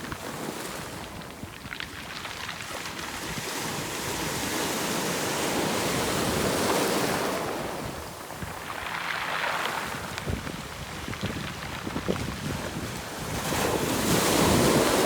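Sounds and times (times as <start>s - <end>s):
wave washing over pebbles: 0.0s - 15.0s.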